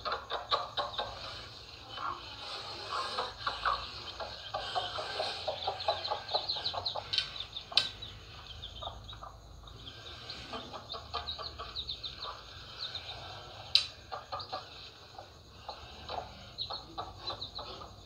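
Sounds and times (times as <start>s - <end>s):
mother bird calling: 0.0s - 18.0s
young birds peeping: 0.0s - 18.0s.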